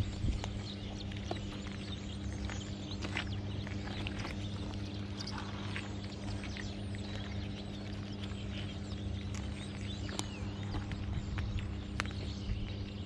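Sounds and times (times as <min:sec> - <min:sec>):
cats crunching dry kibble: 0:00.0 - 0:13.0
steady low hum: 0:00.0 - 0:13.0.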